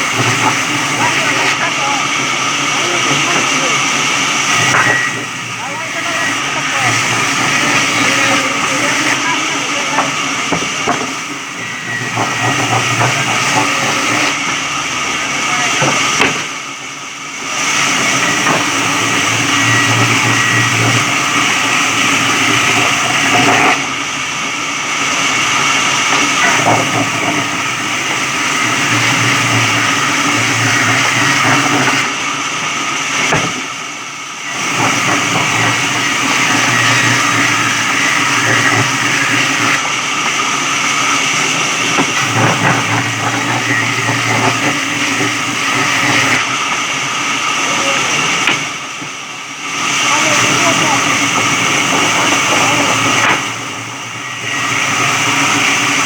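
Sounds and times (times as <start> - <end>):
sawmill cutting wood: 0.0 - 56.0.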